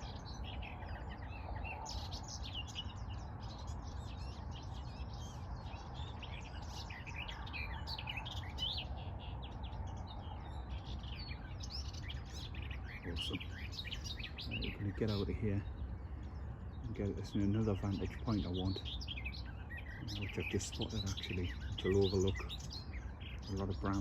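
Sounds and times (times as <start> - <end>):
bird warbling song: 0.0 - 24.0.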